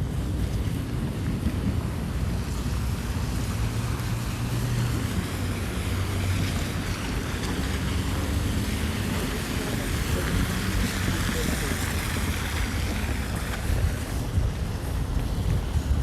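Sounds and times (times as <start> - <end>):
street traffic rumble: 0.0 - 16.0
wind on microphone: 0.0 - 16.0.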